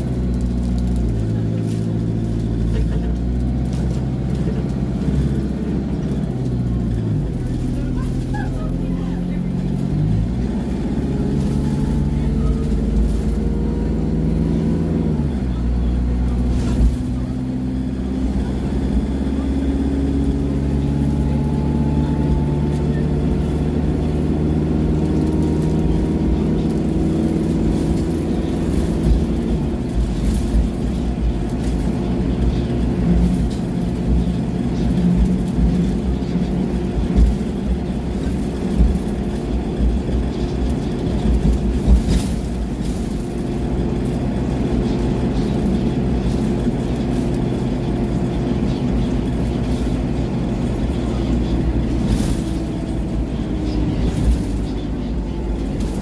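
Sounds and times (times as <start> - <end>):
bus diesel engine running: 0.0 - 56.0
road rumble: 0.0 - 56.0.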